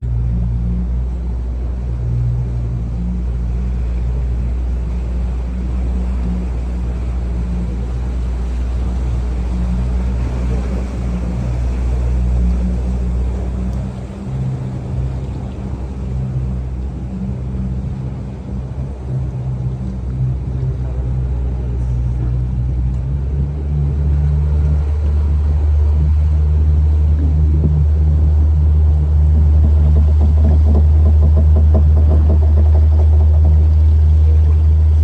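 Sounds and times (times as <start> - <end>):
boat motor droning: 0.0 - 35.0
water rushing: 0.0 - 35.0
wind: 0.0 - 35.0.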